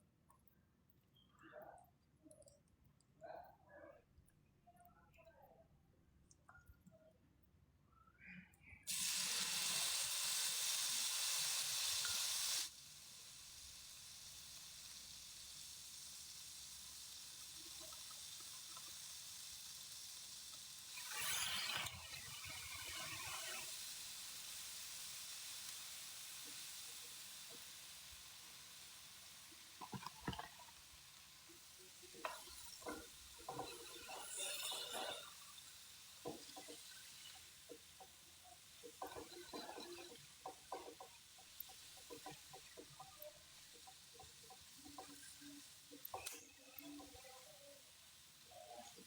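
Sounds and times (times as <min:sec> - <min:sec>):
hot oil sizzling: 0:08.9 - 0:49.0.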